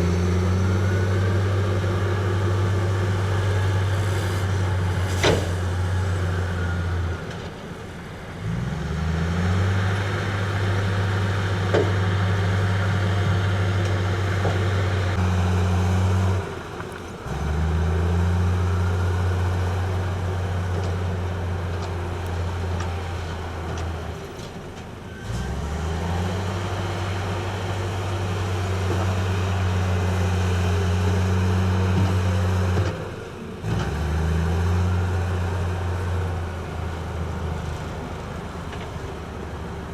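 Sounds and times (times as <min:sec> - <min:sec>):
heavy diesel engine under load: 0:00.0 - 0:39.9.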